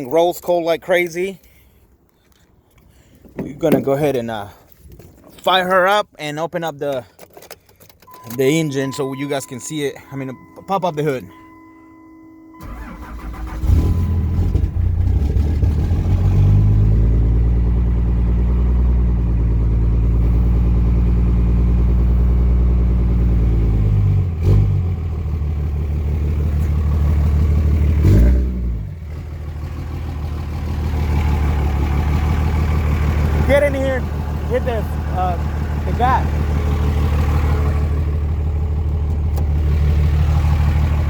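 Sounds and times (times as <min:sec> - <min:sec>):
diesel engine cranking and idling: 0:00.0 - 0:41.0.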